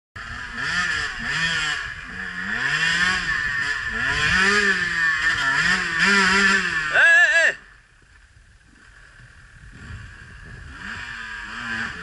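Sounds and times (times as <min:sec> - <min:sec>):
dirt bike engine revving: 0:00.2 - 0:07.8, 0:08.6 - 0:12.0.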